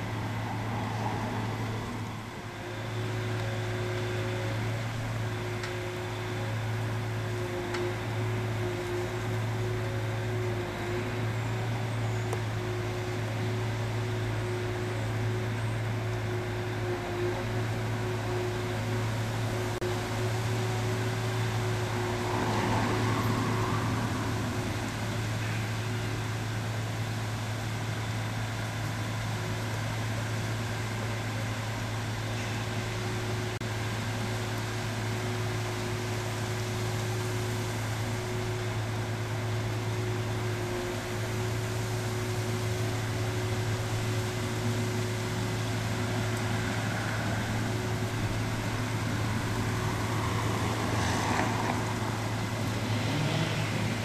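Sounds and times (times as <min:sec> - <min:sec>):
crane engine and hydraulics humming: 0:00.0 - 0:54.0.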